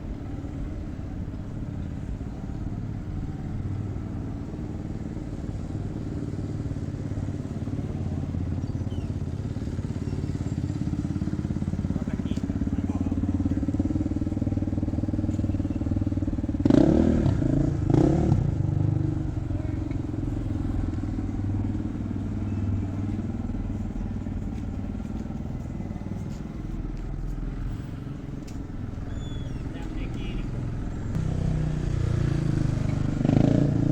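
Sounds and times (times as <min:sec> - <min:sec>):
engine idling and revving: 0:00.0 - 0:33.9.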